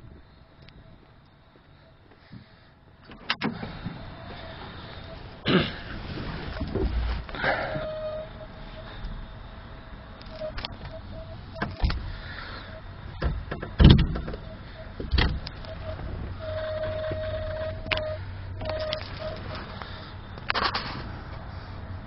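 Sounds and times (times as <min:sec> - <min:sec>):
low hum: 0:00.0 - 0:22.0
thin whine: 0:03.0 - 0:21.8.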